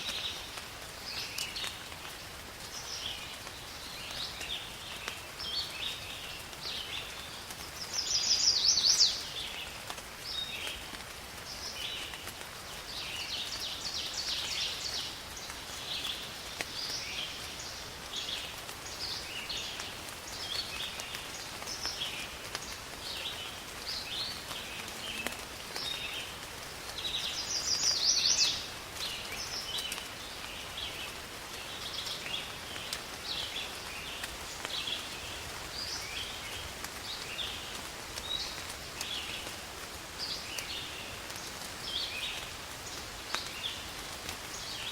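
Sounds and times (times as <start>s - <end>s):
rain hiss: 0.0s - 44.9s.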